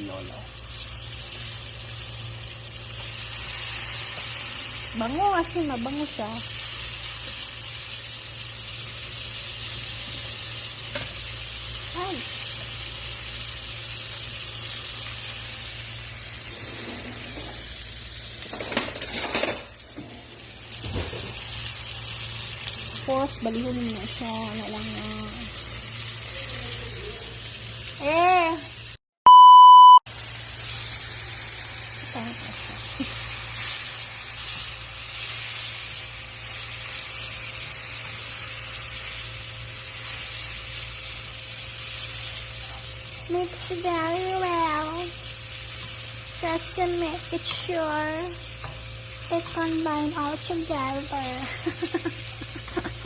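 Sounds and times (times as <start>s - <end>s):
chicken sizzling in hot oil: 0.0s - 29.0s, 30.1s - 53.0s.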